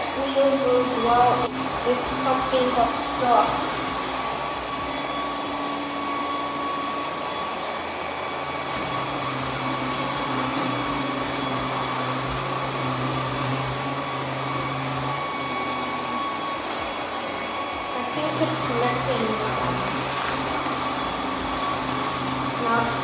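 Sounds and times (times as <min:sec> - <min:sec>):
robot vacuum motor whir: 0:00.1 - 0:23.0.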